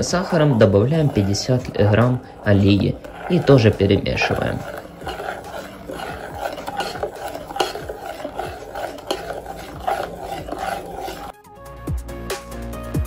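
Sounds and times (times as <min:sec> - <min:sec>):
metal spoon scraping pot: 0:00.0 - 0:11.4.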